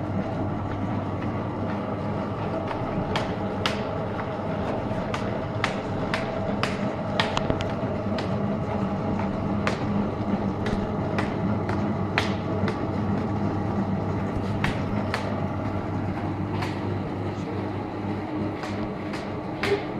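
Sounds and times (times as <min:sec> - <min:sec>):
machine motor hum: 0:00.0 - 0:19.9.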